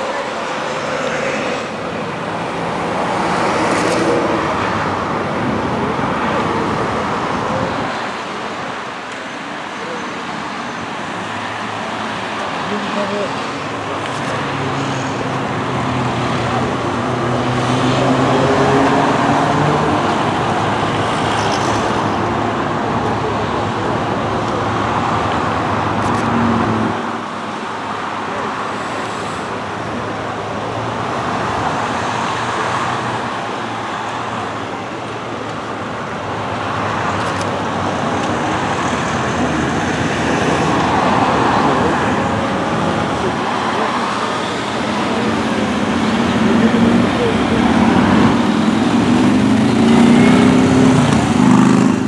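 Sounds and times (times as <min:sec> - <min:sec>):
motorway traffic noise: 0:00.0 - 0:52.0.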